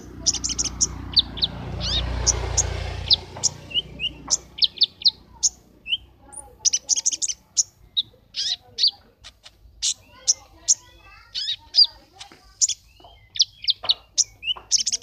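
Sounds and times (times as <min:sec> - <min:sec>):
bird chirping and trilling: 0:00.0 - 0:15.0.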